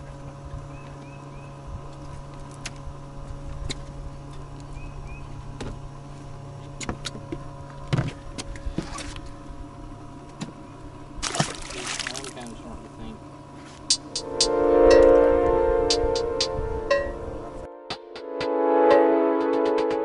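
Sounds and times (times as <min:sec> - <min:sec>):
electric boat motor humming: 0:00.0 - 0:17.7.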